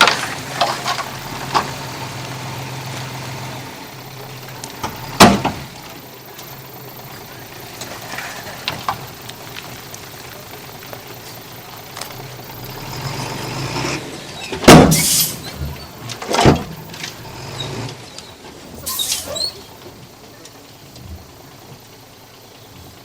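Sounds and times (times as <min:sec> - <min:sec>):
diesel engine of heavy machinery: 0:00.0 - 0:23.0.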